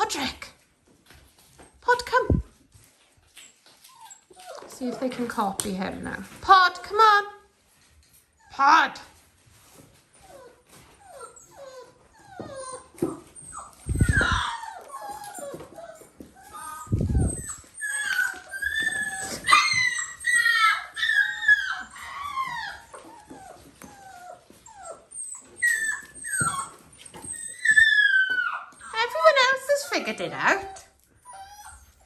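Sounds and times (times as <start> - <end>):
puppies whining and yelping: 1.3 - 6.2, 9.5 - 32.0.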